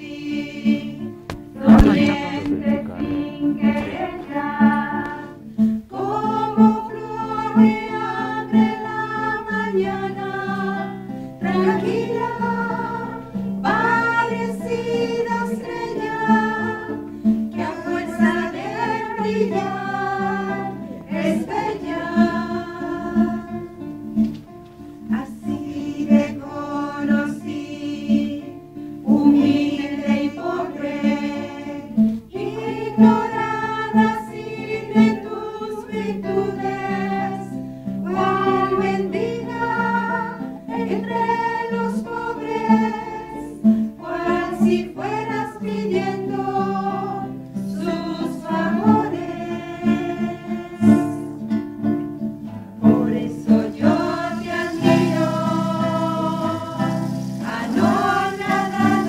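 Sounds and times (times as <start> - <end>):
women singing together: 0.0 - 24.0, 25.0 - 51.5, 52.8 - 59.0
plucked acoustic guitar: 0.0 - 59.0.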